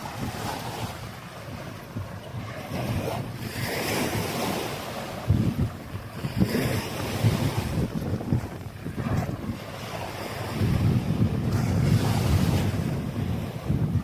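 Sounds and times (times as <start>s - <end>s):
small waves washing on sand: 0.0s - 14.0s
wind buffeting microphone: 0.0s - 14.0s.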